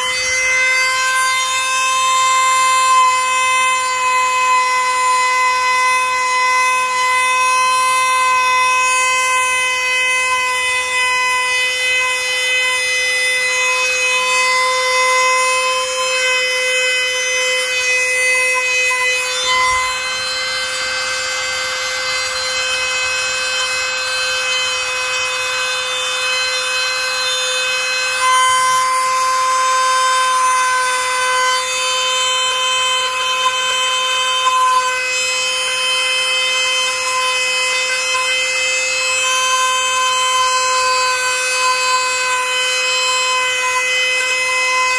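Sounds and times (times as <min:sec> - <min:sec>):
power tool high-pitched whine: 0:00.0 - 0:44.9.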